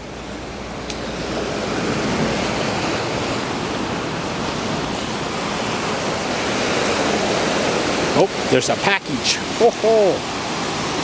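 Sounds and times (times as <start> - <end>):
ocean surf washing on sand: 0.0 - 11.0.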